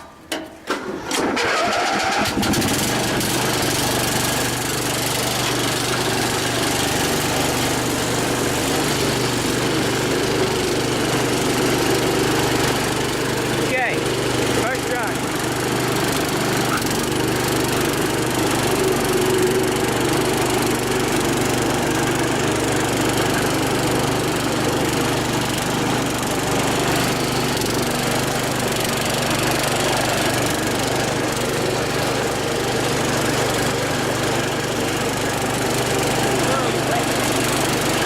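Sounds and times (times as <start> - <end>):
lawn tractor engine running: 0.0 - 38.0.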